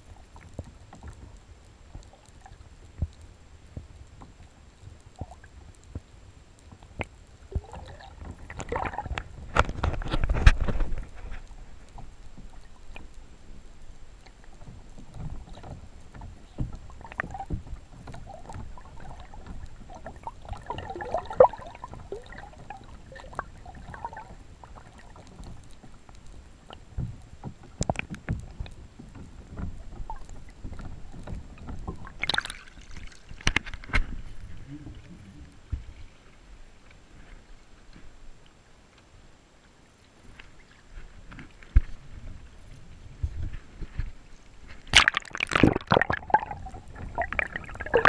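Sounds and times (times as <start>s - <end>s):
underwater rumble of moving water: 0.0s - 48.0s
water splashing: 6.7s - 38.5s, 40.1s - 48.0s.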